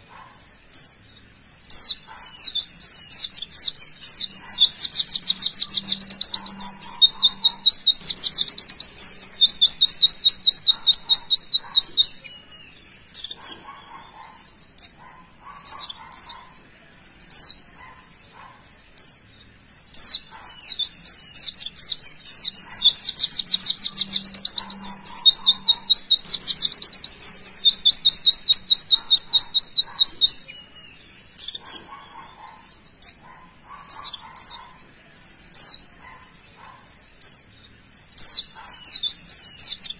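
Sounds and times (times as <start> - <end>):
sharp bird chirps: 0.0 - 39.9.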